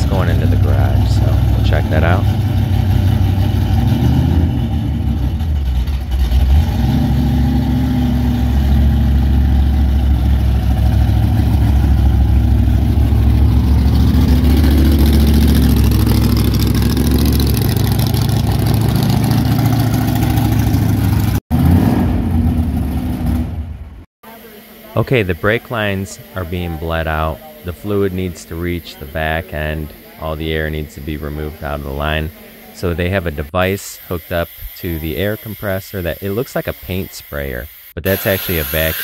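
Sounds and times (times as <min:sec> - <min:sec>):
car engine revving: 0:00.0 - 0:34.3.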